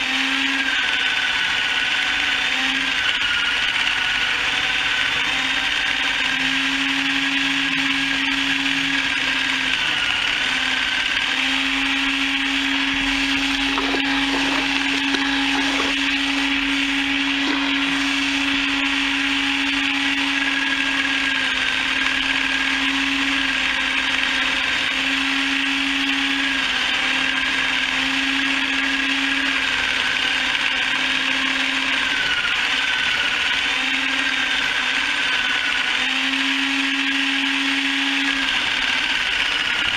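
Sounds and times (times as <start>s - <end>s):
chicken plucker motor whirring: 0.0s - 39.9s.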